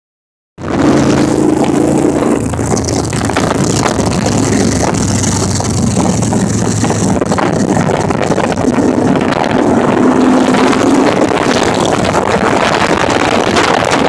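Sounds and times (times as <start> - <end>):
motorcycle engines droning: 0.6 - 14.0
wind on microphone: 0.6 - 14.0.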